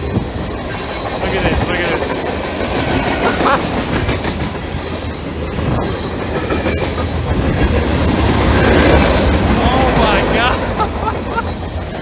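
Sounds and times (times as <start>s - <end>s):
train wheels rumbling and clattering: 0.0s - 12.0s.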